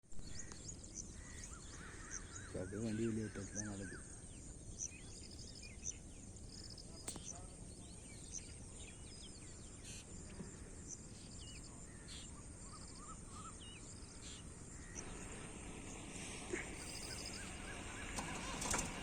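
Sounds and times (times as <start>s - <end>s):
low outdoor rumble: 0.1s - 19.0s
small birds chirping: 0.1s - 19.0s.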